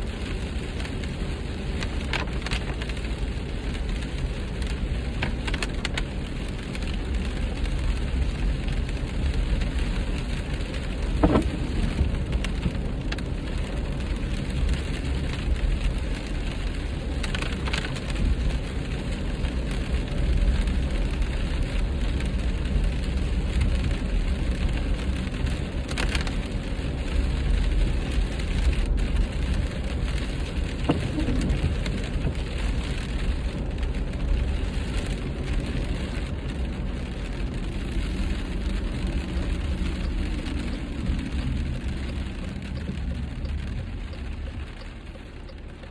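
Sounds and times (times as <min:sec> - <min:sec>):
rain spattering on windshield: 0:00.0 - 0:45.9
road and tyre noise in car: 0:00.0 - 0:45.9.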